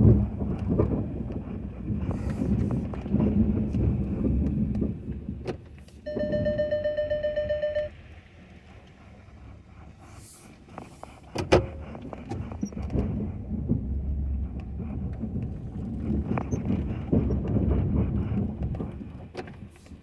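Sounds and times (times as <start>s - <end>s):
rough low rumble: 0.0s - 19.3s
plow blade pushing snow: 0.0s - 20.0s
truck engine running: 0.0s - 20.0s.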